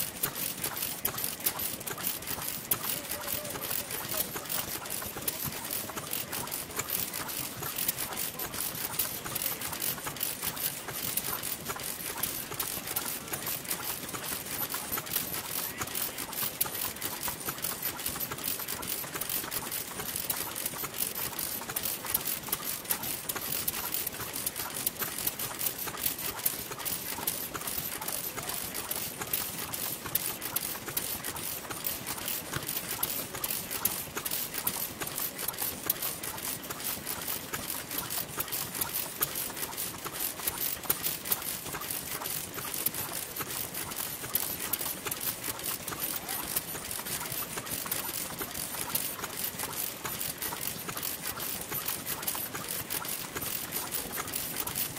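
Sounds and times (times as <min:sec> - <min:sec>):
rapid mechanical clicking: 0:00.0 - 0:54.9
stationary engine running: 0:00.0 - 0:54.9.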